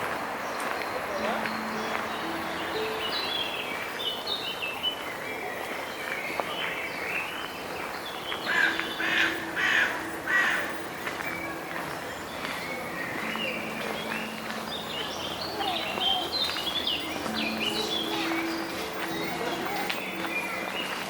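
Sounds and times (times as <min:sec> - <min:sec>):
small songbirds chirping: 0:00.4 - 0:21.0.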